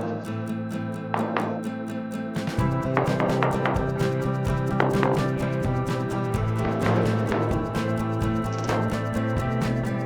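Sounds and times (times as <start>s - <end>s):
music with plucked guitar and beat: 0.0s - 10.0s.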